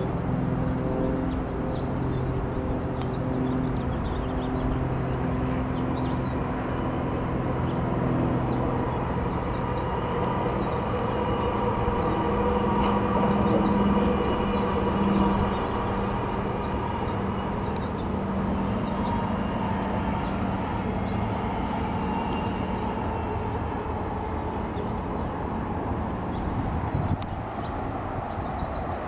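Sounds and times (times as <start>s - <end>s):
engine-like drone: 0.0s - 29.0s.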